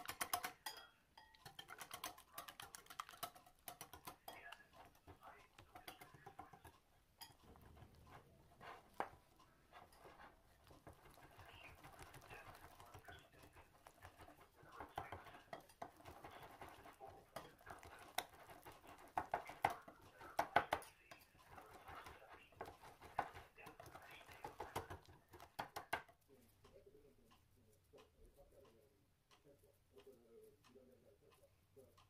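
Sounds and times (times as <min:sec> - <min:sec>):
whisk beating batter in a bowl: 0:00.0 - 0:28.8.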